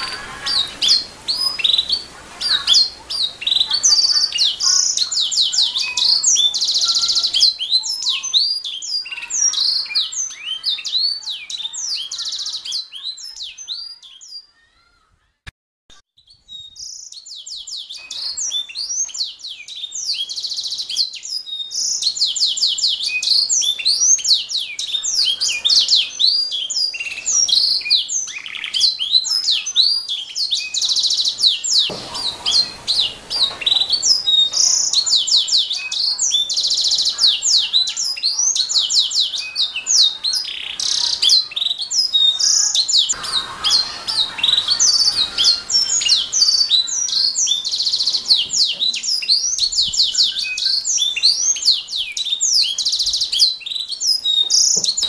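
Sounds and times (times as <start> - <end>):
canary singing trills: 0.0 - 15.0, 16.2 - 55.0.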